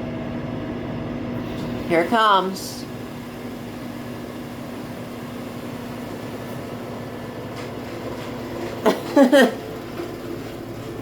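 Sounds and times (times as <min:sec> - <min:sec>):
washer motor hum: 0:00.0 - 0:11.0
water spraying into drum: 0:01.4 - 0:11.0.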